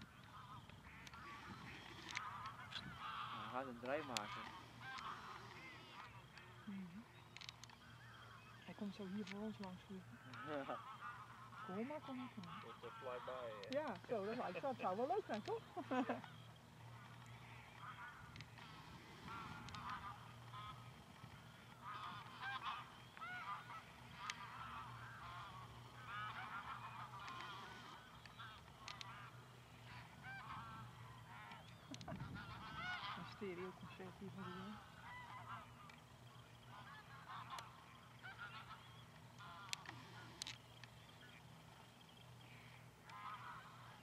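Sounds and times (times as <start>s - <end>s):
geese honking: 0.0s - 44.0s
steady low hum: 0.0s - 44.0s.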